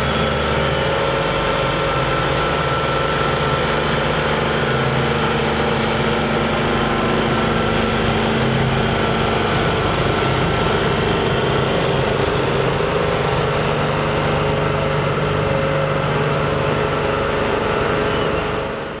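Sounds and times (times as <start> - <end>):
stump grinder engine droning: 0.0 - 19.0.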